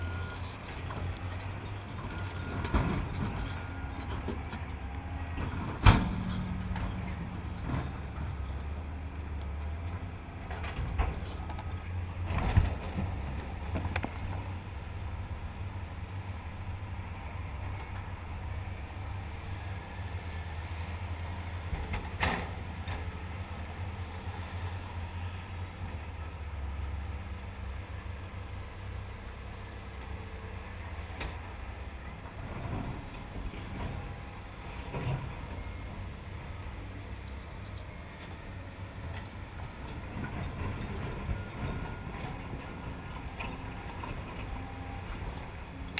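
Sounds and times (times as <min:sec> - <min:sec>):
diesel engines droning: 0:00.0 - 0:45.9.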